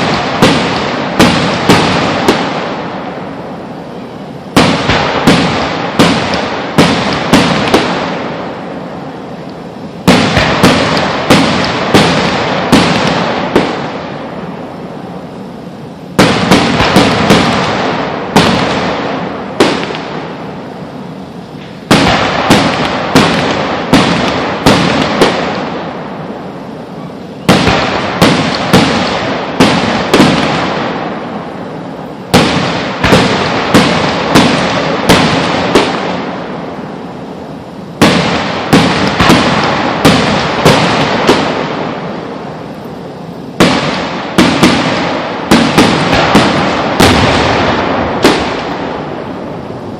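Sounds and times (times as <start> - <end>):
fireworks bursting with crackles: 0.0 - 49.9.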